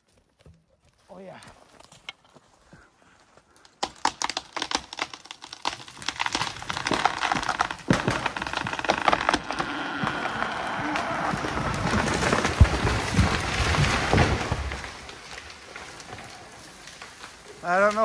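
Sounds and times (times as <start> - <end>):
tree branches cracking and snapping: 3.4 - 18.0.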